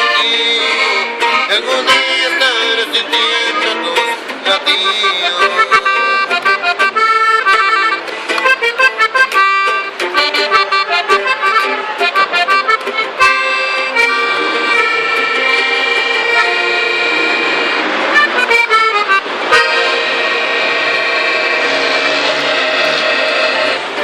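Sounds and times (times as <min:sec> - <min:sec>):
accordion playing: 0:00.0 - 0:24.0.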